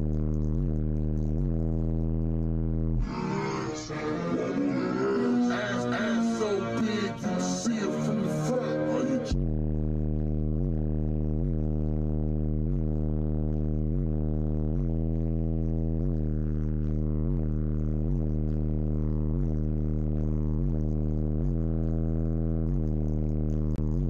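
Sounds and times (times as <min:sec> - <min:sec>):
subwoofer playing low bass note: 0:00.0 - 0:24.0.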